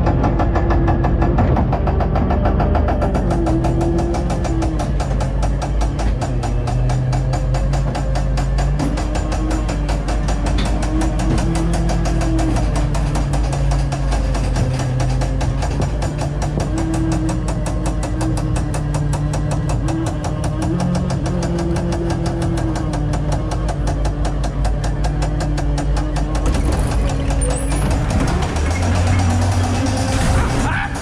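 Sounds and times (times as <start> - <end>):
wheels clattering over rails: 0.0 - 31.0.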